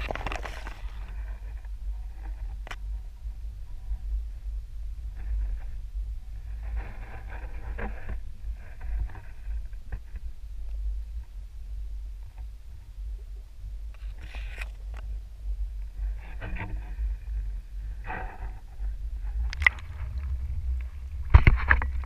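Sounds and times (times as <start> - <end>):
faint scrapes and clicks: 0.0 - 4.2, 5.0 - 11.4, 12.2 - 12.8, 13.9 - 22.0
underwater rumble: 0.0 - 22.0.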